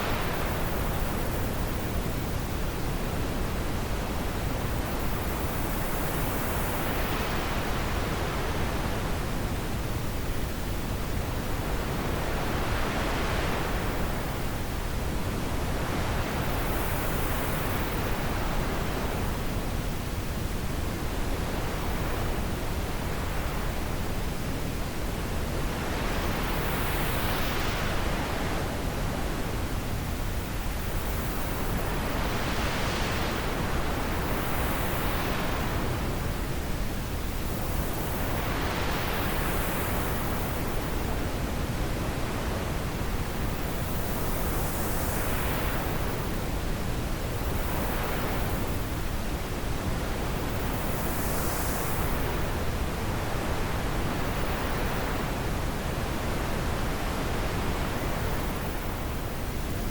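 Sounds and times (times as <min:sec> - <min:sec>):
rushing wind in gusts: 0:00.0 - 0:59.9.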